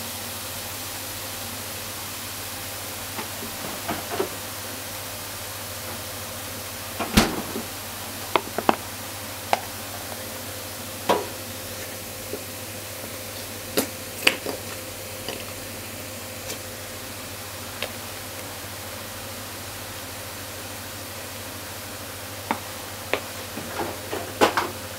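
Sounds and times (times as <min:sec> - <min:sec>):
food sizzling in frying pan: 0:00.1 - 0:24.9.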